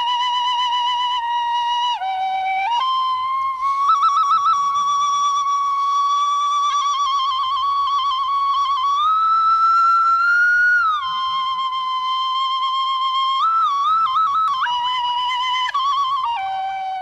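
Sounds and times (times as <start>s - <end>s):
flute-like melody with trills: 0.0s - 17.0s.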